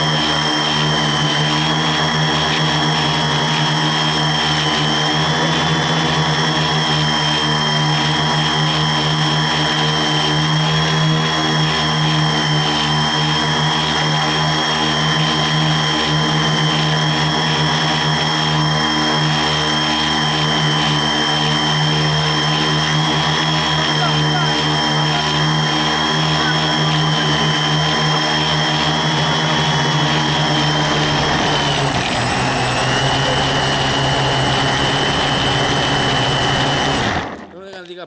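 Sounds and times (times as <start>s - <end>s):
quadcopter buzzing hum: 0.0s - 37.6s.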